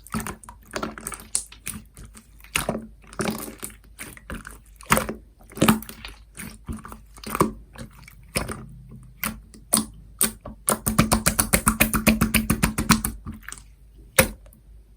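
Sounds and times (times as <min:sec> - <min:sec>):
slime squished by hand: 0:00.0 - 0:14.4.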